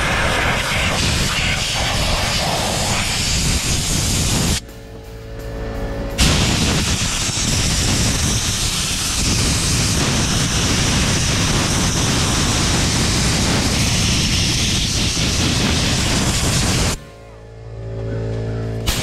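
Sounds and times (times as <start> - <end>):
pressure washer spraying: 0.0 - 4.6, 6.2 - 17.0.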